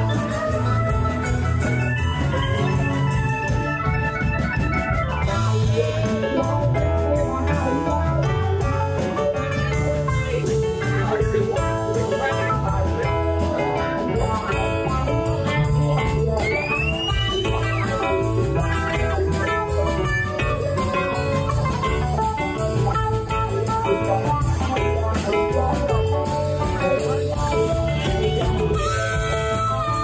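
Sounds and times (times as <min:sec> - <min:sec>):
acoustic-electric guitar: 0:00.0 - 0:30.0
bass guitar: 0:00.0 - 0:30.0
drums: 0:00.0 - 0:30.0
organ keyboard: 0:00.0 - 0:30.0.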